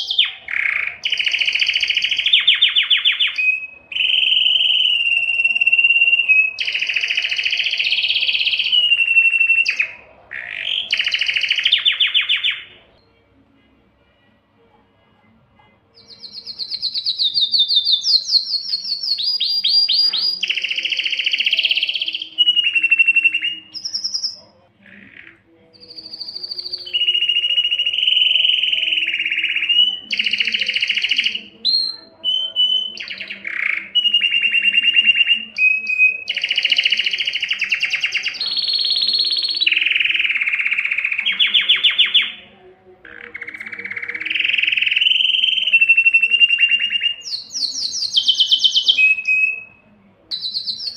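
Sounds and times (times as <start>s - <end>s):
canary singing trills: 0.0s - 13.3s, 15.6s - 50.9s.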